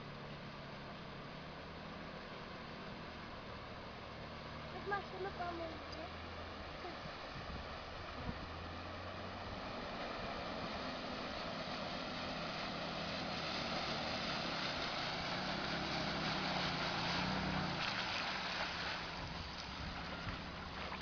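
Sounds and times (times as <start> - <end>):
car engine running: 0.0 - 21.0
water rushing from wheels: 0.0 - 21.0.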